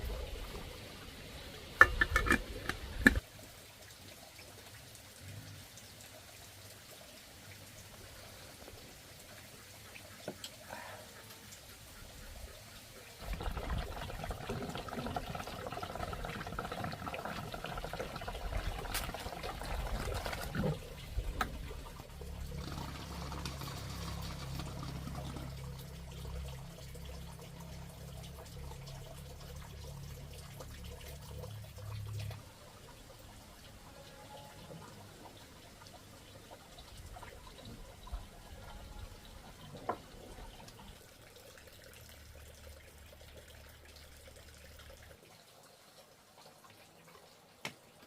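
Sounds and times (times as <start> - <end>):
water pouring and running: 0.0 - 48.0.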